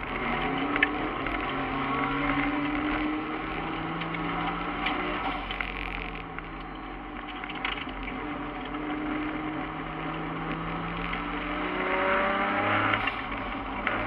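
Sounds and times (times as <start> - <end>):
race car engine under load: 0.0 - 14.0.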